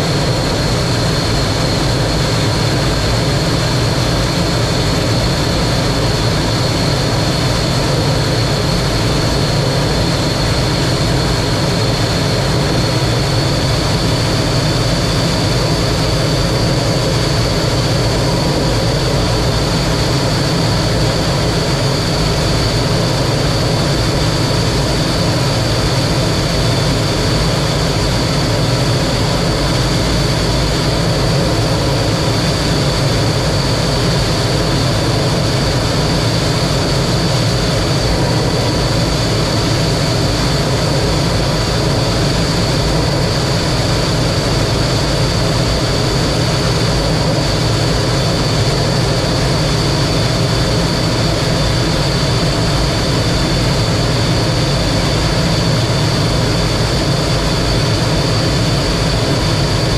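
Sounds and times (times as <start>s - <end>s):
jet engine in flight: 0.0s - 59.9s
steady high whine: 0.0s - 59.9s.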